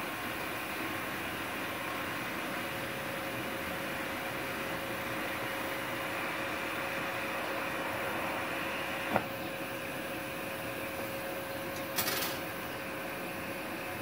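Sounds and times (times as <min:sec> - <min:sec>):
welder hum: 0:00.0 - 0:14.0.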